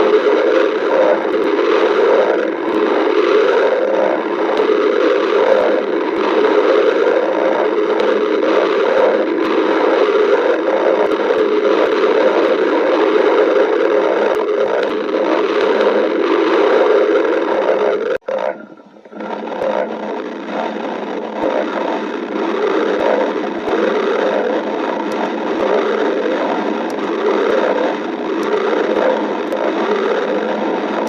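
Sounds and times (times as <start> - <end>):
stomach growling: 0.0 - 31.0.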